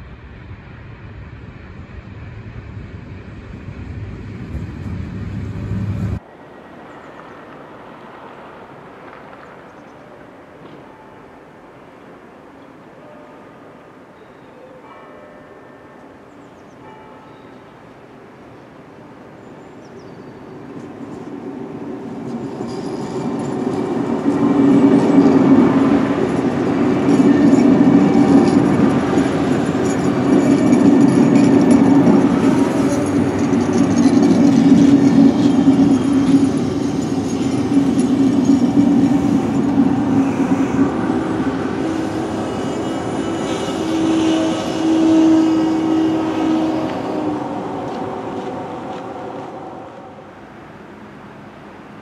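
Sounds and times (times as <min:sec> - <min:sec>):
train wheels rumbling on rails: 0:00.0 - 0:14.1, 0:18.1 - 0:52.0.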